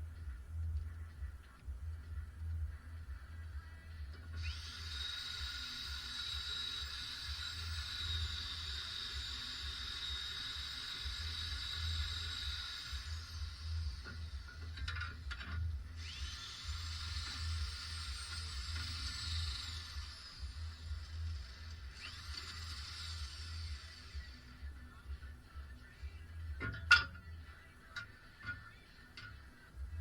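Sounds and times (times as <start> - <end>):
music with low pulsing beat: 0.0 - 30.0.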